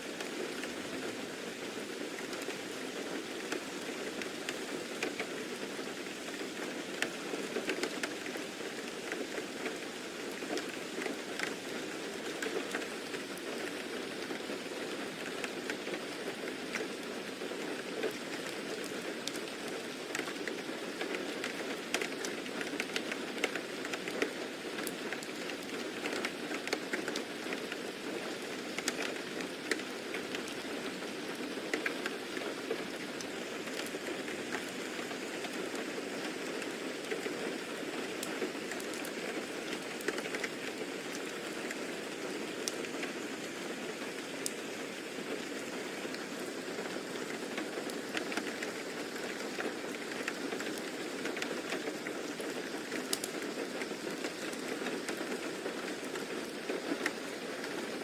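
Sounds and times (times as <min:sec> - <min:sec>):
rainfall hiss: 0:00.0 - 0:58.0
raindrop ticks: 0:06.2 - 0:14.5, 0:16.7 - 0:17.0, 0:17.7 - 0:44.7, 0:45.3 - 0:57.8.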